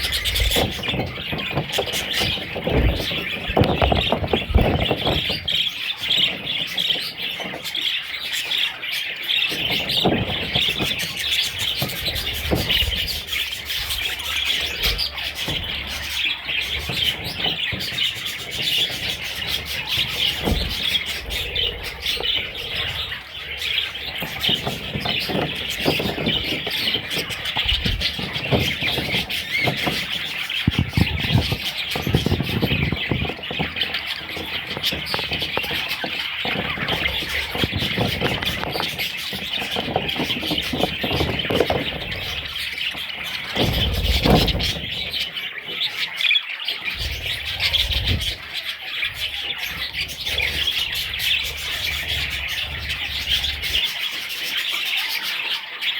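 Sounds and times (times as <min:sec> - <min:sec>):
low rumbling bumps: 0:00.0 - 0:07.7, 0:09.3 - 0:46.0, 0:46.8 - 0:54.0
budgerigars chirping and chattering: 0:00.0 - 0:55.9.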